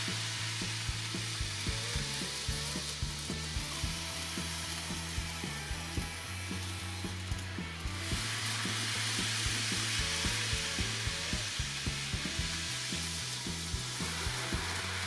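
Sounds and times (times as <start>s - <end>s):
music with beat and bass line: 0.0s - 15.0s
steady hiss: 0.0s - 15.0s.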